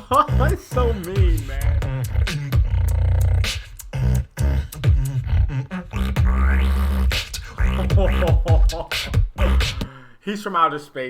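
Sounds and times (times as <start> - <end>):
beatboxing: 0.0 - 10.0.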